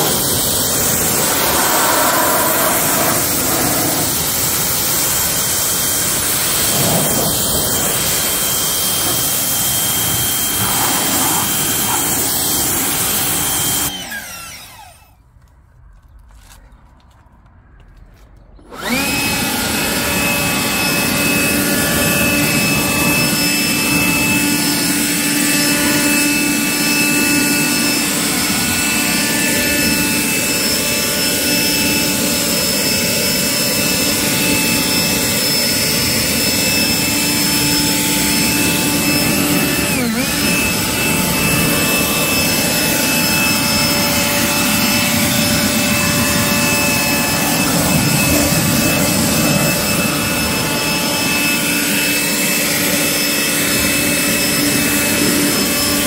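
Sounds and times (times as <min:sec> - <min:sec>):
leaf blower rushing air: 0:00.0 - 0:15.2, 0:18.6 - 0:56.0.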